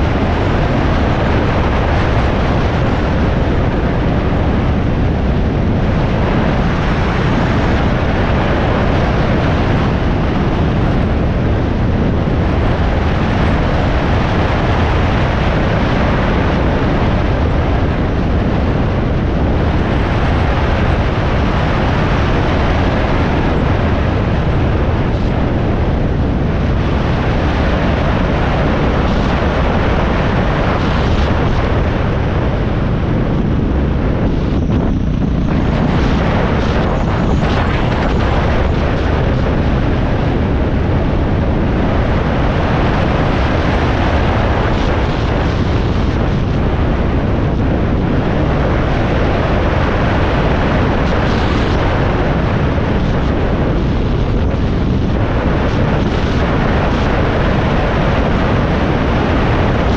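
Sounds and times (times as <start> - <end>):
motorcycle engine drone: 0.0 - 59.9
wind rush over microphone: 0.0 - 59.9.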